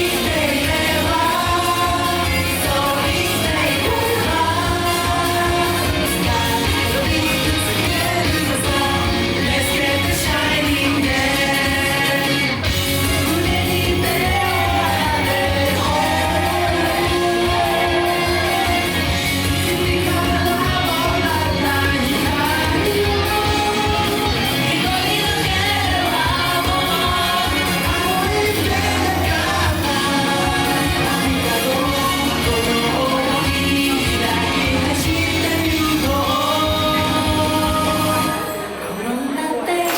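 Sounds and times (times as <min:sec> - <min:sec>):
live pop song with singing: 0:00.0 - 0:39.9.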